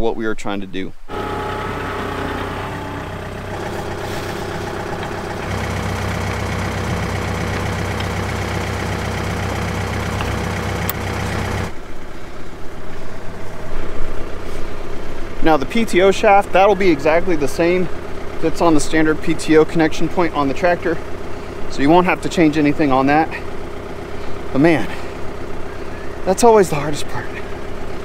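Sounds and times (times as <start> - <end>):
tractor diesel engine droning: 1.1 - 11.8, 15.7 - 28.0.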